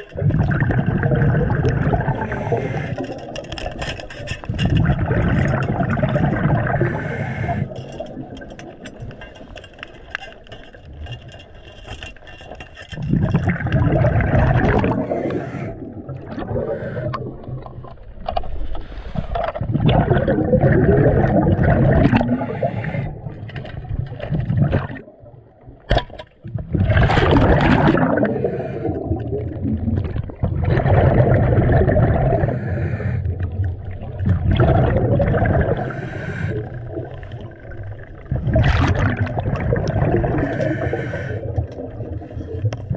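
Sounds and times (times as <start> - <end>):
underwater bubbles gurgling: 0.0 - 9.4, 13.0 - 42.9.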